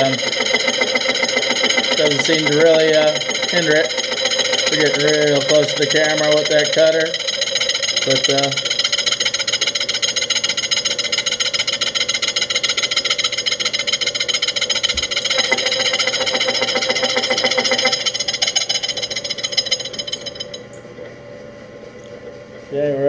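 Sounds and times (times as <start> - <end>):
milling saw chattering through metal: 0.0 - 20.8.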